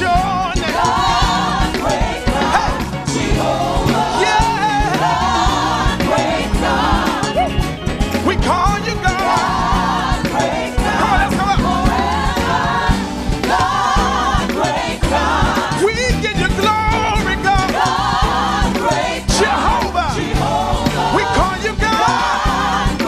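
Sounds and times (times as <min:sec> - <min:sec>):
choir singing with vibrato: 0:00.0 - 0:16.2, 0:17.5 - 0:23.0
band bass and drums: 0:00.0 - 0:23.0.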